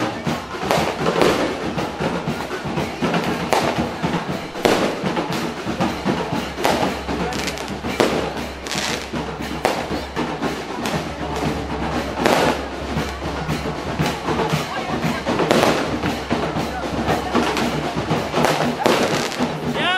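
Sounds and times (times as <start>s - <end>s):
sharp bangs: 0.0s - 16.3s, 17.2s - 19.6s
music: 0.0s - 19.9s.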